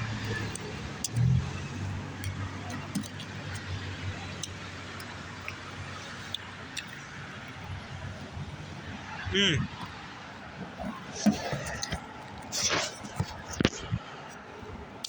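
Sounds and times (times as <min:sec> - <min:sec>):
low hum of vehicle traffic: 0:00.0 - 0:15.0.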